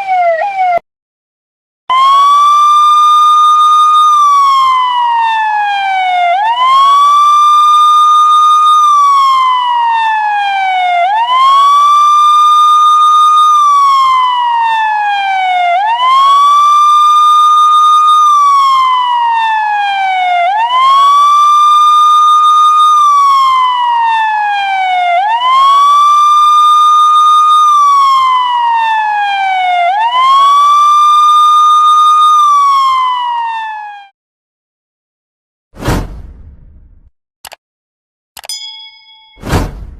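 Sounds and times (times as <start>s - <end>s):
police siren wailing: 0.0s - 0.8s, 1.9s - 34.1s.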